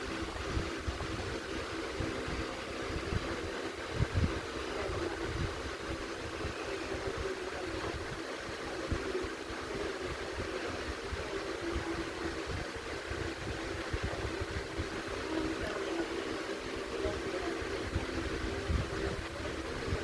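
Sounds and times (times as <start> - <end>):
air buffeting microphone: 0.0 - 20.0
electric fan running: 0.0 - 20.0.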